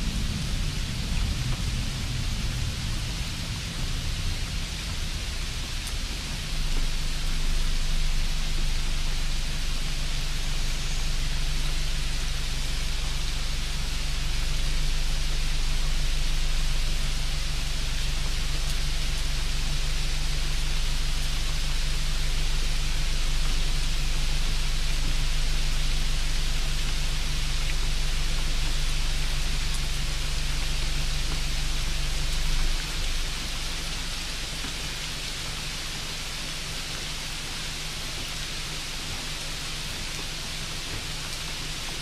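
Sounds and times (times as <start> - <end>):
low hum: 0.0 - 42.0
steady hissing noise: 0.0 - 42.0.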